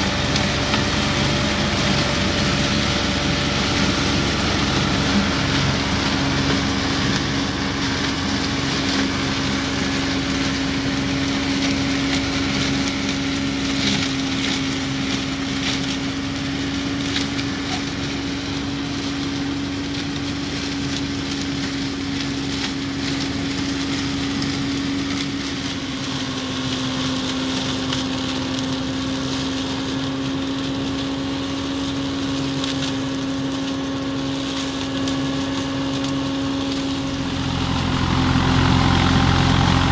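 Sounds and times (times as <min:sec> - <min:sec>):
diesel tractor droning: 0:00.0 - 0:39.9
flail mulcher chopping stalks: 0:00.0 - 0:39.9.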